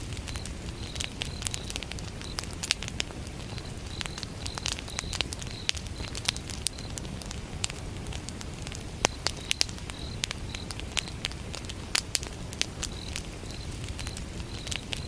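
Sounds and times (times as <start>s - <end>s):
crickets chirping: 0.0s - 15.0s
wood fire crackling: 0.0s - 15.0s.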